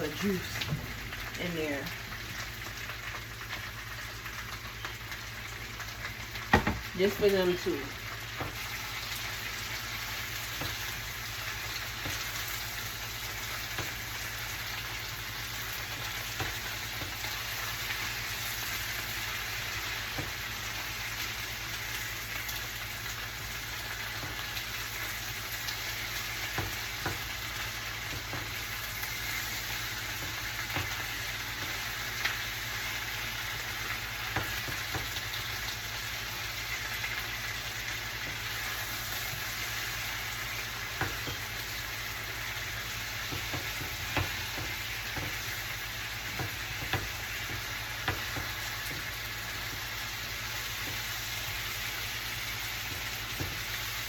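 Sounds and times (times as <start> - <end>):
oil popping and crackling: 0.0 - 54.0
potatoes sizzling in a pan: 0.0 - 54.0.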